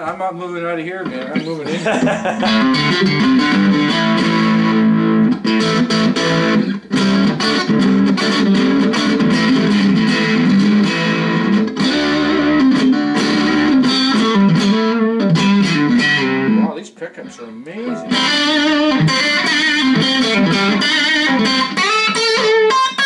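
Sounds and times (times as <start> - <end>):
electric guitar through amplifier: 1.1 - 23.0.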